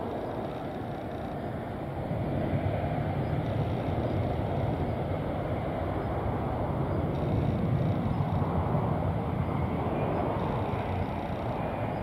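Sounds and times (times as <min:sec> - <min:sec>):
jet engines roaring: 0:01.3 - 0:12.0.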